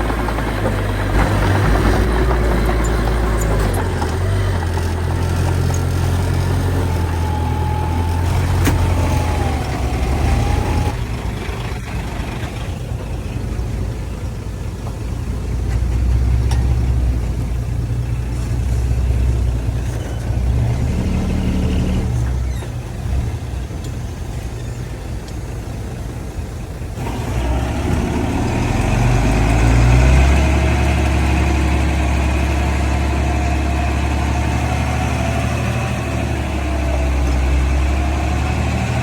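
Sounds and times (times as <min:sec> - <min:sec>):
diesel machinery engine rumble: 0:00.0 - 0:39.0.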